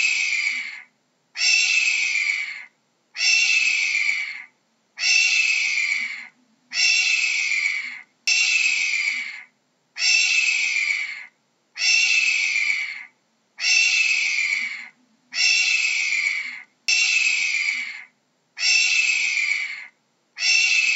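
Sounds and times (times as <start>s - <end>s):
hawk screaming: 0.0s - 20.9s.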